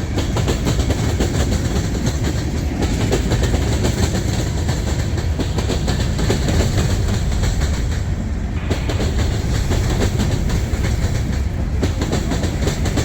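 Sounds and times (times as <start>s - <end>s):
train wheels clattering over rails: 0.0s - 13.0s.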